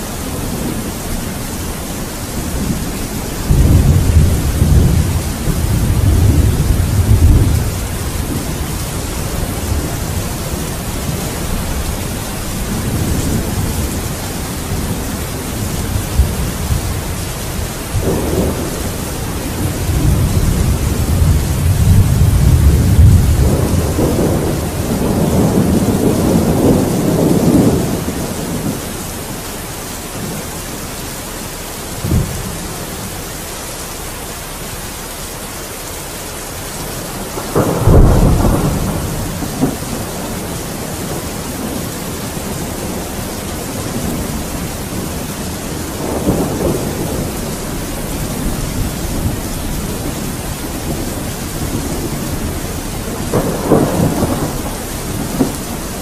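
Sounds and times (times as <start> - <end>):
heavy rain: 0.0 - 56.0
thunder rumbling: 0.0 - 56.0
thunder clap: 2.4 - 29.0, 31.9 - 33.2, 36.9 - 56.0.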